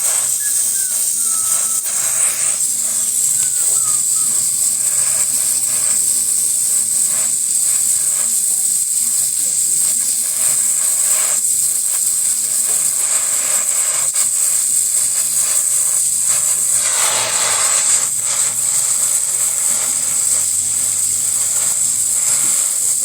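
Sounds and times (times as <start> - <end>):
welding torch flame hissing: 0.0 - 23.0.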